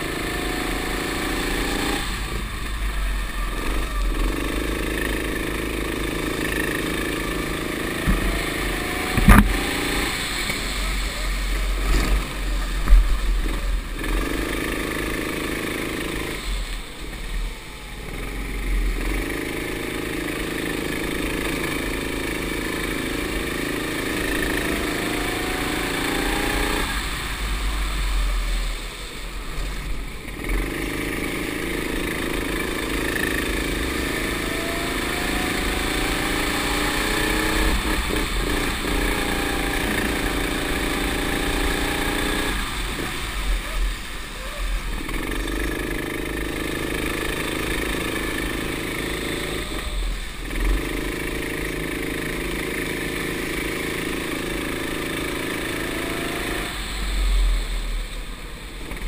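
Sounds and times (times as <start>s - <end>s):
go-kart engine accelerating: 0.0s - 59.0s.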